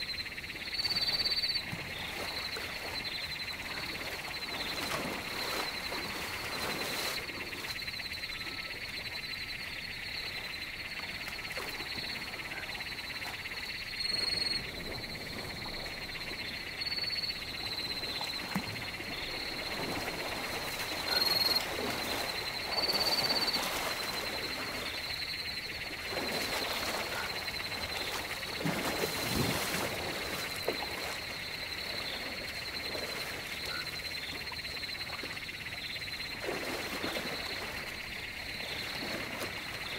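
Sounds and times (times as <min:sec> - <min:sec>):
chorus of pulsing animal calls: 0:00.0 - 0:39.9.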